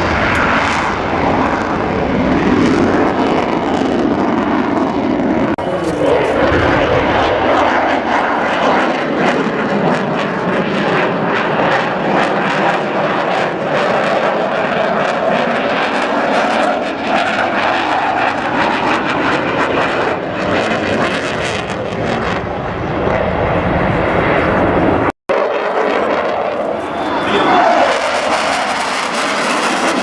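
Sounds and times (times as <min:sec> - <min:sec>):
military aircraft engine roar: 0:00.0 - 0:30.0.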